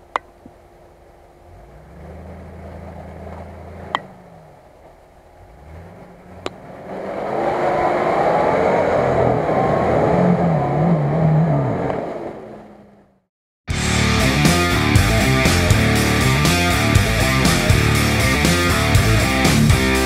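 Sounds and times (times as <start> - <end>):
engine revving under load: 1.5 - 20.0.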